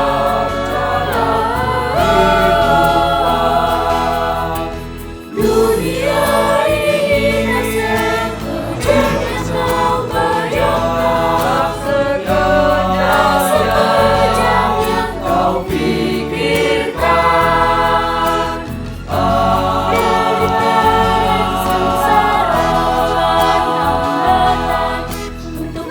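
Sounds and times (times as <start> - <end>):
choir singing in harmony: 0.0 - 25.9.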